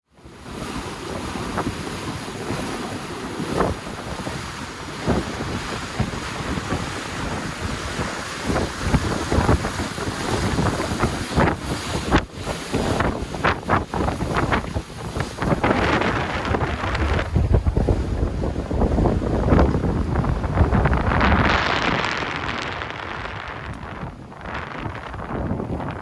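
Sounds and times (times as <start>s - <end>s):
water splashing against hulls: 0.2s - 26.0s
wind buffeting microphone: 0.2s - 26.0s.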